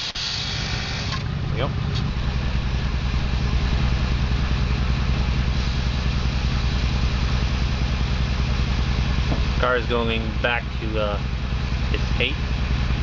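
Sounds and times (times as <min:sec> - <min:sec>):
air compressor pulsing hum: 0:00.0 - 0:13.0.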